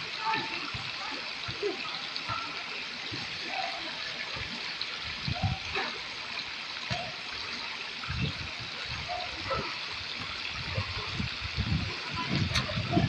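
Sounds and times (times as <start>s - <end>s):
faint voices: 0.0s - 13.0s
water rushing and trickling: 0.0s - 13.0s.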